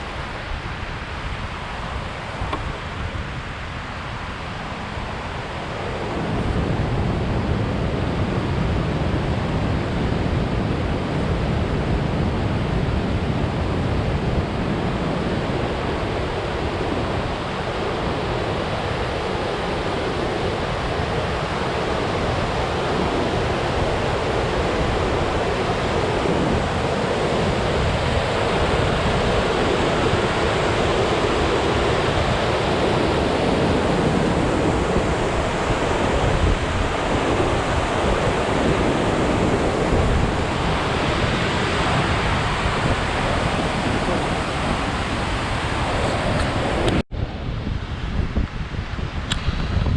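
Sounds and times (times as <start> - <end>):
water rushing over waterfall: 0.0 - 47.0.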